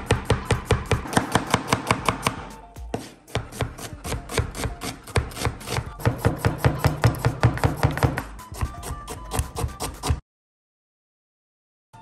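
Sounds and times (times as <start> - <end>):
knife chopping on cutting board: 0.0 - 10.2.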